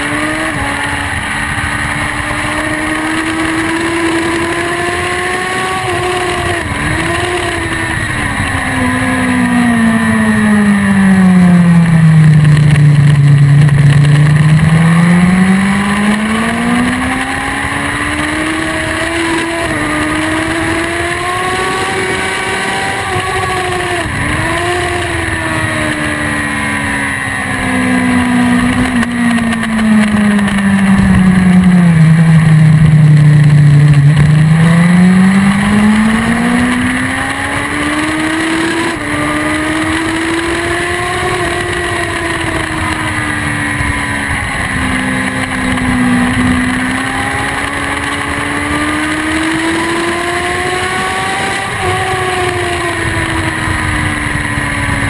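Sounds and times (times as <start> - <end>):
motorcycle engine at speed: 0.0 - 55.0.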